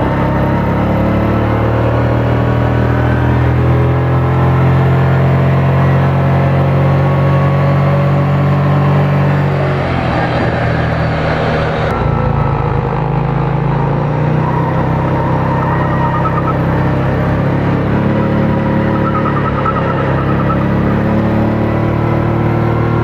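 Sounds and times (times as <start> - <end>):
small car engine running: 0.0 - 23.0.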